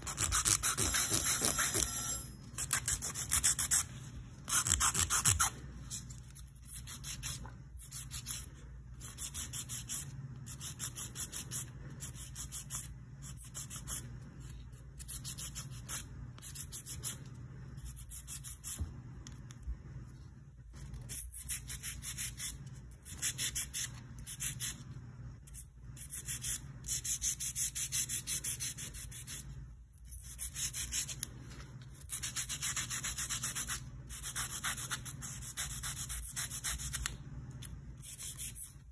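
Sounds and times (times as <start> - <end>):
nail file scraping: 0.0 - 19.6, 20.8 - 38.9.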